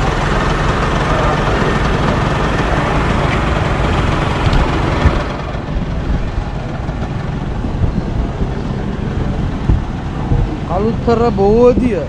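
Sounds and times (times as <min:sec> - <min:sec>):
cars and three-wheelers passing: 0:00.0 - 0:12.0
motorcycles passing: 0:00.0 - 0:12.0.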